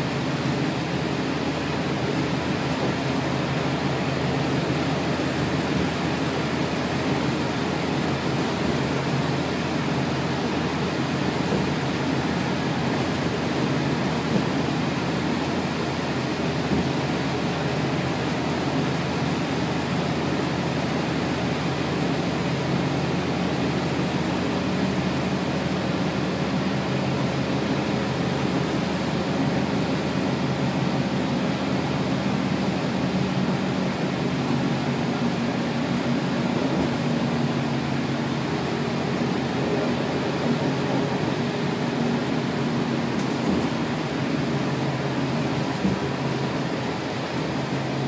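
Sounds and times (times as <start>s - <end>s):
bus diesel engine drone: 0.0s - 48.0s
road and ventilation hiss: 0.0s - 48.0s.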